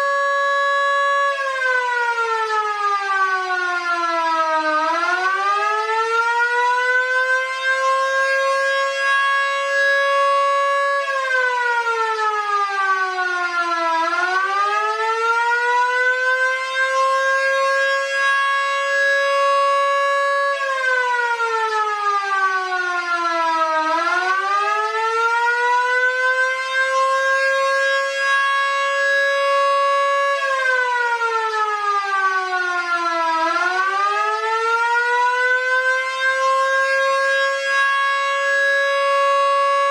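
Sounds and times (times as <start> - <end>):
electric sirens winding up and down: 0.0 - 39.9.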